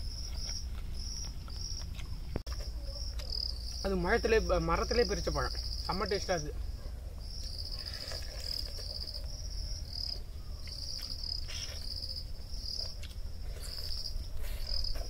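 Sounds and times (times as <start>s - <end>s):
insect chirring trill: 0.0s - 6.6s, 7.2s - 15.0s.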